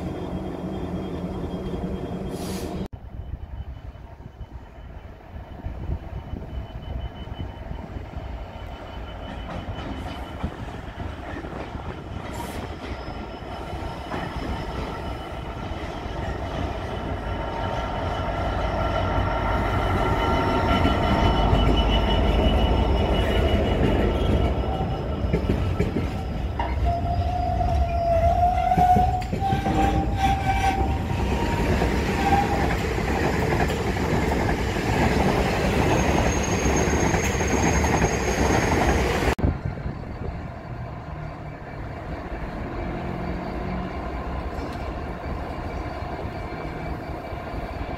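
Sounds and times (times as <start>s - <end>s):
diesel locomotive engine: 0.0s - 47.9s
train wheels on rails: 3.6s - 47.9s
wheel squeal: 5.8s - 47.9s.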